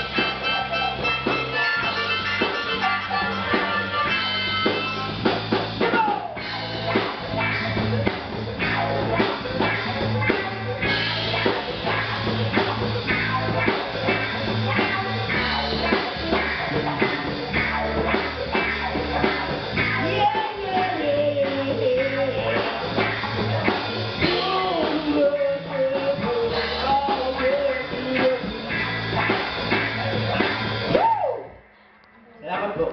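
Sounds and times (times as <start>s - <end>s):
wavering lead melody: 0.0s - 30.9s
blues-funk band playing: 0.0s - 31.9s.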